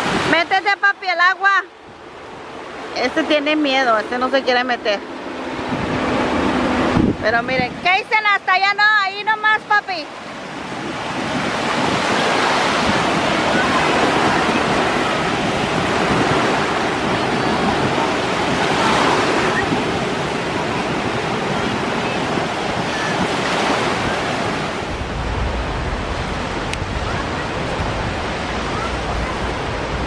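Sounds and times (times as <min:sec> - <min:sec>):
small waves breaking on shore: 0:00.0 - 0:30.0.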